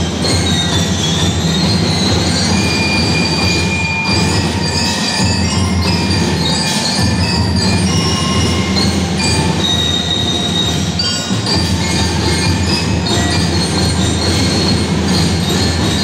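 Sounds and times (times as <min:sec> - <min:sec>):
bell-like mallet percussion: 0:00.0 - 0:16.0
crowd noise: 0:00.0 - 0:16.0
drums: 0:00.0 - 0:16.0
school band playing: 0:00.0 - 0:16.0.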